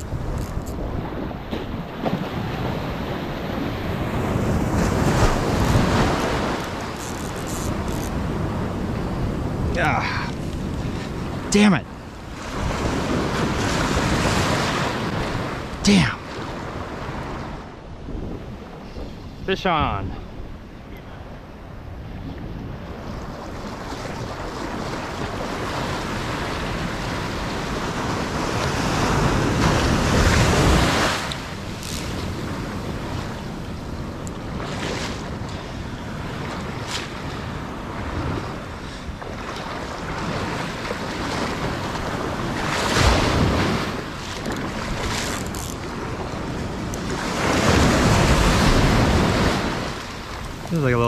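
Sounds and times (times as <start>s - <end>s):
ocean water washing and splashing: 0.0s - 51.0s
wind buffeting microphone: 0.0s - 51.0s.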